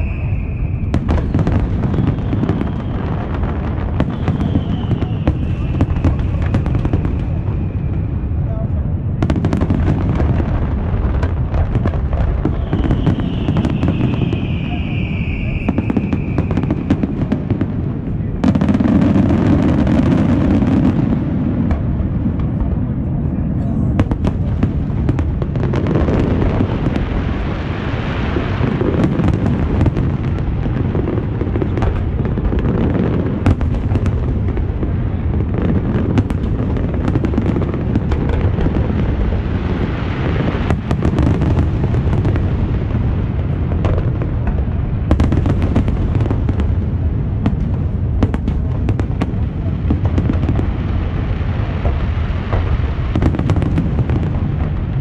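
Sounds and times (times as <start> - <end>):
fireworks booming: 0.0 - 55.0
fireworks cracks and pops: 0.0 - 55.0.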